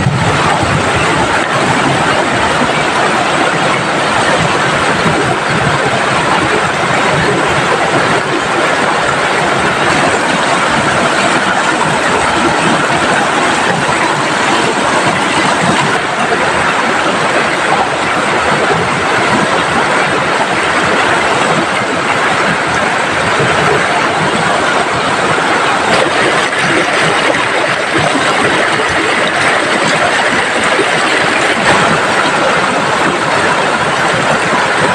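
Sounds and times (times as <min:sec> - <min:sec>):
fast-flowing river rushing: 0:00.0 - 0:34.9
heavy rain pouring: 0:00.0 - 0:34.9.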